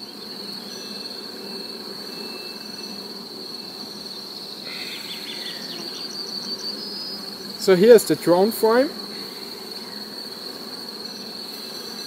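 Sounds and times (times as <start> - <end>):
high-pitched insect trill: 0.0 - 12.0
honeybees buzzing: 0.0 - 12.0.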